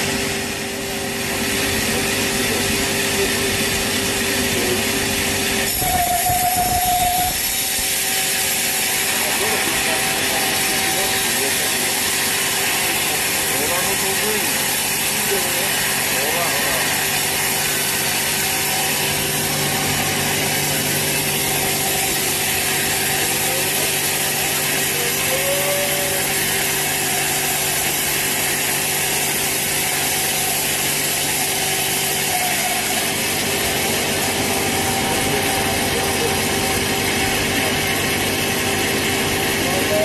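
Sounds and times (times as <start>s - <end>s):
motor hum: 0.0s - 40.0s
saw cutting through log: 0.0s - 40.0s.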